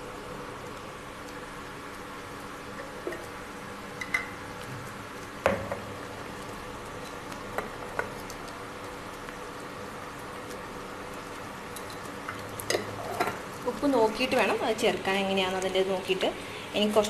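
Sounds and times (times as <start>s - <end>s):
gravy simmering in a pan: 0.0s - 17.0s.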